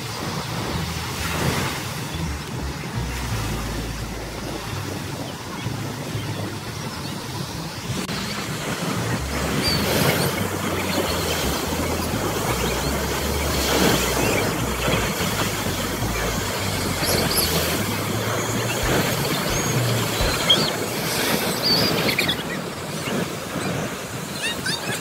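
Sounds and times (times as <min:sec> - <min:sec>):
surf breaking on shore: 0:00.0 - 0:25.0
wind buffeting microphone: 0:00.0 - 0:25.0.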